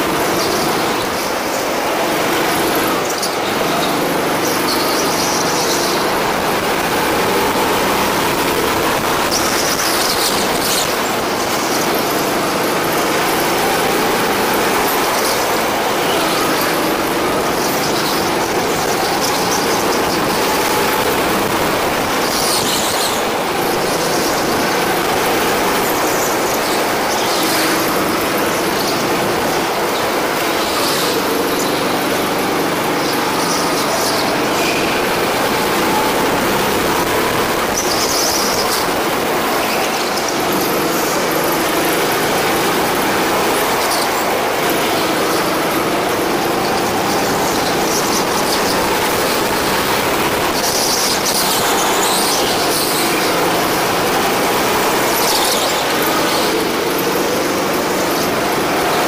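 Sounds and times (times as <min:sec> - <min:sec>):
go-kart engine running: 0:00.0 - 0:59.0
high-pitched squeals: 0:00.0 - 0:59.0.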